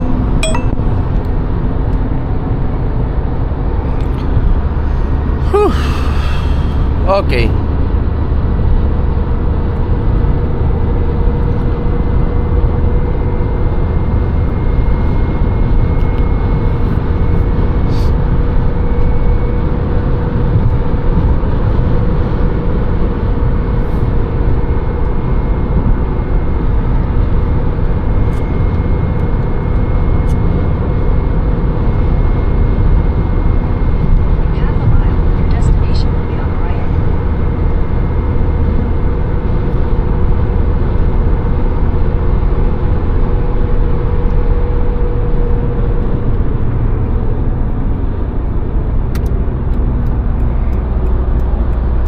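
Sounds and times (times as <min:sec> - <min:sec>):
road and engine noise in car: 0:00.0 - 0:52.0.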